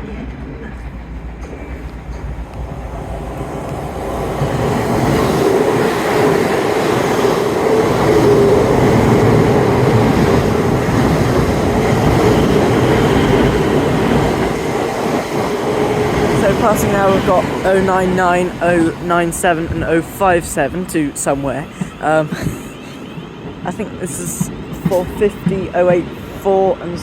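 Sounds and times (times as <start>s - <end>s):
electric train passing: 0.0s - 27.0s
wheels clattering on rails: 0.0s - 27.0s.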